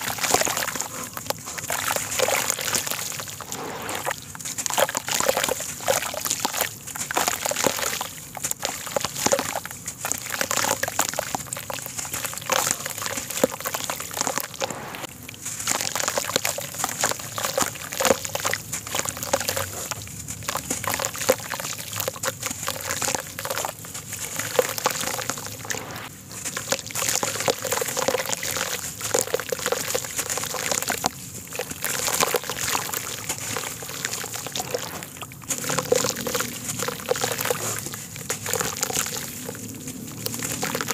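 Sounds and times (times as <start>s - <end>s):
gritty soil crackling: 0.0s - 40.9s
muddy water sloshing and splashing: 0.0s - 40.9s.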